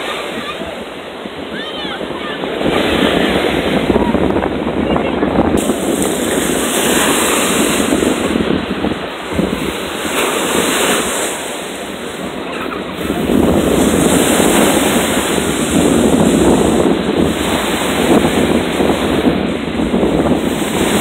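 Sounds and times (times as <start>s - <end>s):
small waves breaking: 0.0s - 21.0s
wind buffeting microphone: 0.0s - 21.0s.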